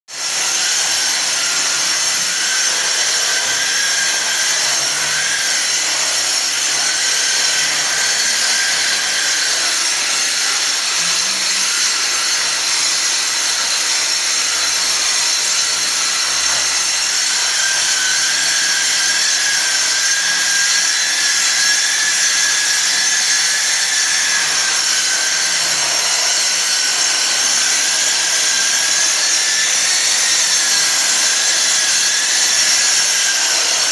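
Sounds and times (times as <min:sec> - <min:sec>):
electric disc sander grinding: 0:00.2 - 0:33.9.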